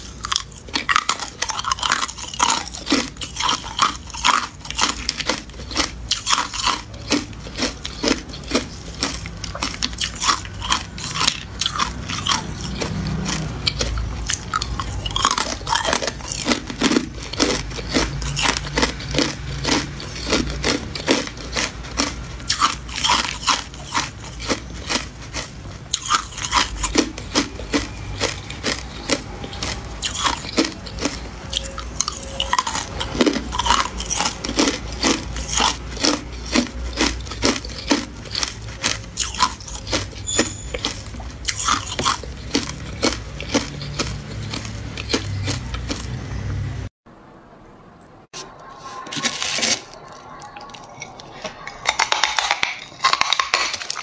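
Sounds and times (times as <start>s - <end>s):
ice cubes being crunched: 0.0s - 46.1s, 49.0s - 54.0s.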